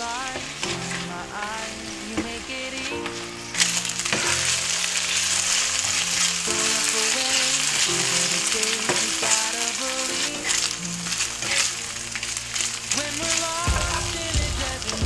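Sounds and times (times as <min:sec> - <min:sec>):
background music: 0:00.0 - 0:15.0
chicken sizzling in oil: 0:00.0 - 0:15.0
spatula stirring in pan: 0:00.0 - 0:15.0.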